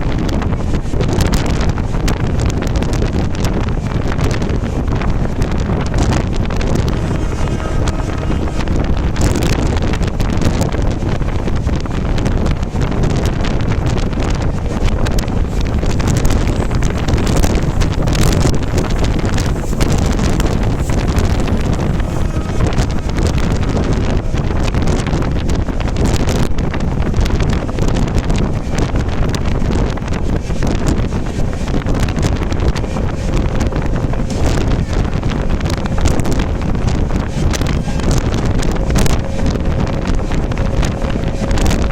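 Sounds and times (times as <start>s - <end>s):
passenger train roaring: 0.0s - 41.9s
wind buffeting microphone: 0.0s - 41.9s.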